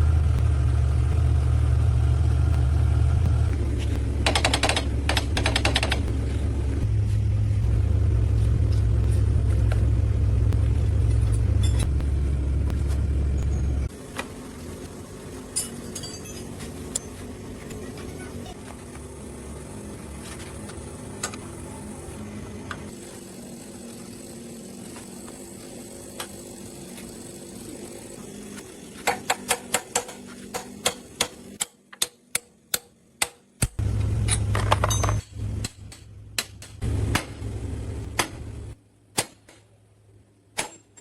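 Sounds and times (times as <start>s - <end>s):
loud low hum cutting in and out: 0.0s - 31.6s, 32.5s - 40.6s
steady low hum: 0.0s - 41.0s.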